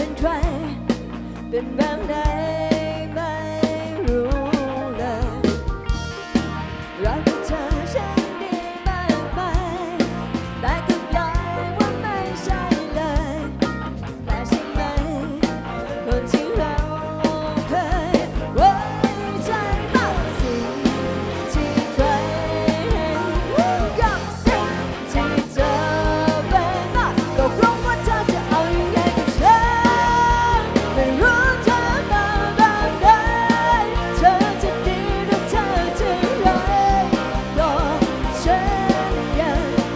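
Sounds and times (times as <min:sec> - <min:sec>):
bass line: 0:00.0 - 0:39.9
drum kit beat: 0:00.0 - 0:39.9
electric guitars: 0:00.0 - 0:39.9
pop-rock band playing: 0:00.0 - 0:39.9
sliding lead melody: 0:00.0 - 0:39.9.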